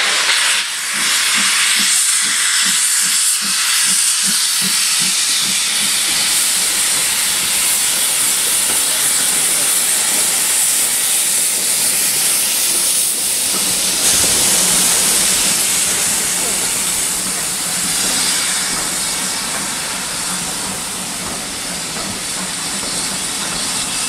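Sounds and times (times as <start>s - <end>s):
low train rumble: 0.0s - 24.0s
steam hissing: 0.0s - 24.0s
steam locomotive exhaust beats: 0.0s - 24.0s.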